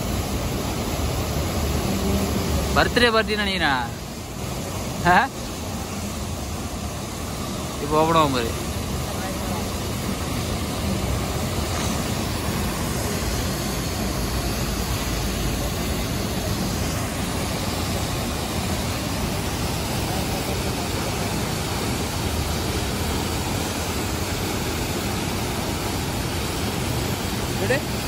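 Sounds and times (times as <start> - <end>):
water pouring and splashing: 0.0 - 28.0.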